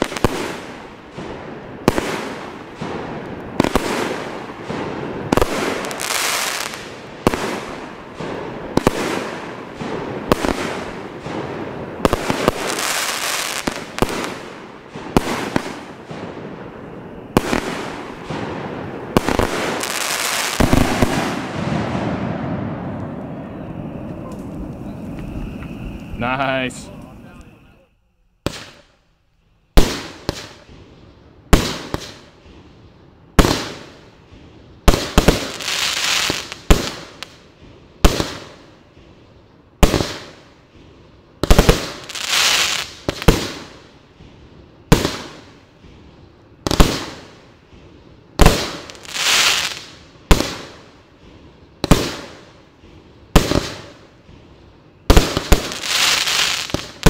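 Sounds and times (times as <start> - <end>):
firework bangs: 0.0 - 27.8, 28.4 - 29.1, 29.7 - 57.0
firework crackling hiss: 0.0 - 57.0.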